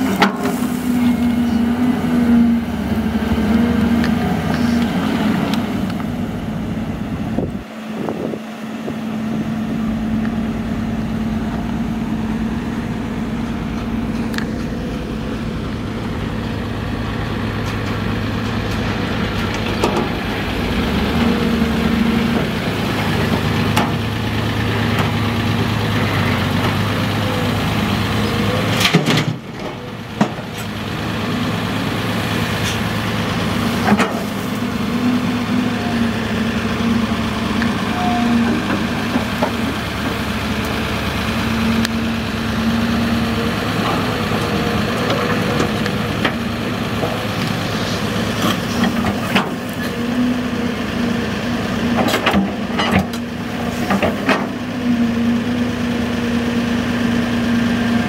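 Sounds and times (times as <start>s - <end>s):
dump truck diesel engine: 0.0s - 58.0s
excavator engine digging: 0.0s - 58.0s.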